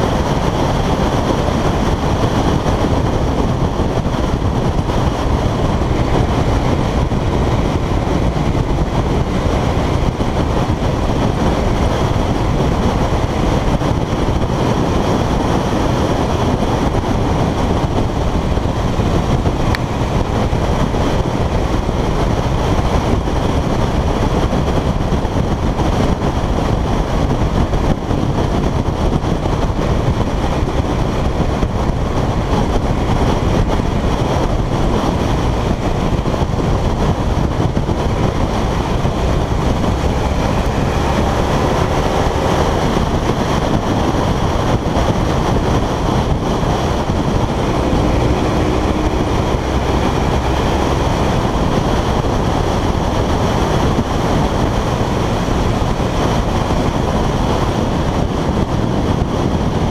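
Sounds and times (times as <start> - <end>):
loud wind noise: 0.0 - 59.9
motorcycle engine running: 0.0 - 59.9.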